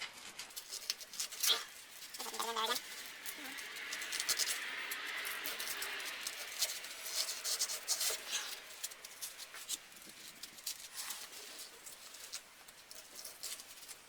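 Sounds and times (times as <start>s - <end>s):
paper rustling and scraping: 0.0s - 14.0s.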